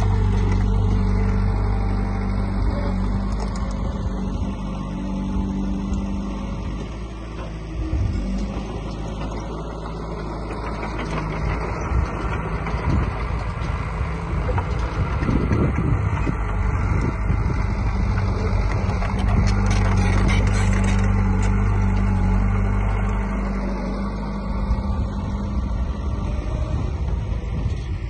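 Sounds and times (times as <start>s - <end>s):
heavy machinery diesel engine running: 0.0s - 28.0s.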